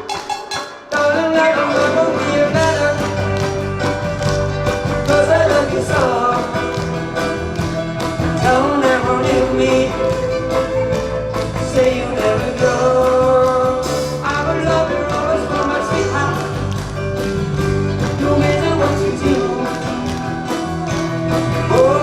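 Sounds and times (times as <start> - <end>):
live band playing pop song: 0.0 - 22.0.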